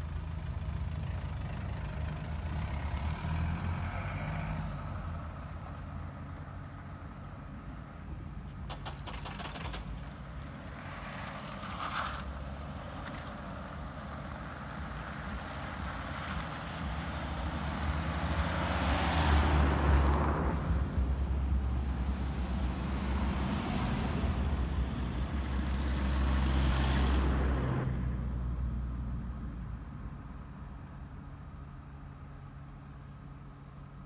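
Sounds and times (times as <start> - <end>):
cars driving past on snow: 0.0 - 34.0.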